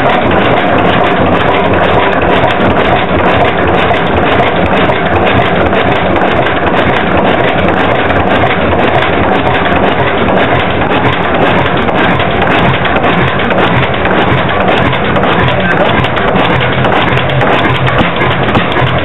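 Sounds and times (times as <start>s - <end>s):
stationary engine clattering: 0.0s - 19.0s.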